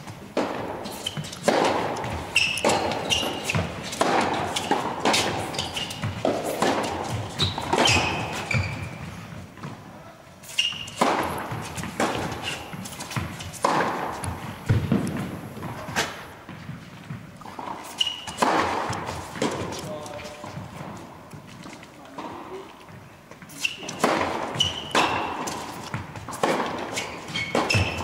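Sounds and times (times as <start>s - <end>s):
ball bouncing on court: 0.0s - 9.8s, 10.6s - 21.0s, 22.9s - 28.0s
racket hitting tennis ball: 0.0s - 9.8s, 10.4s - 28.0s
shoes squeaking: 0.0s - 28.0s.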